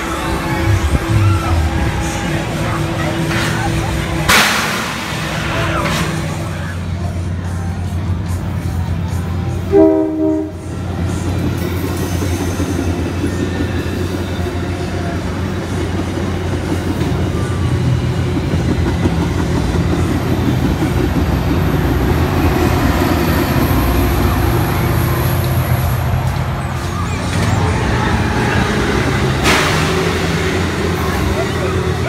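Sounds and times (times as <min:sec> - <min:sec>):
diesel locomotive passing: 0:00.0 - 0:32.0
train wheels rumbling on rails: 0:00.0 - 0:32.0.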